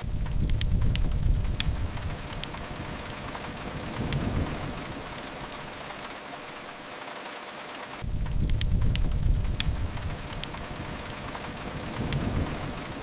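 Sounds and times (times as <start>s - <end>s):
low rumble: 0.0s - 6.8s, 8.0s - 13.0s
fireplace crackles: 0.0s - 13.0s
rain on a window: 0.0s - 13.0s.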